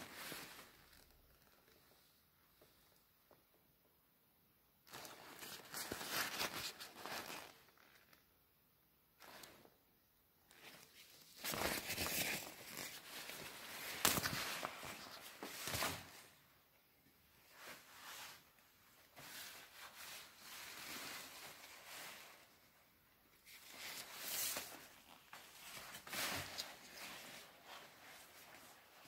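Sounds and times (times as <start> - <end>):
plastic raincoat rustling: 0.0 - 2.7, 4.9 - 8.2, 10.5 - 16.6, 17.4 - 29.0.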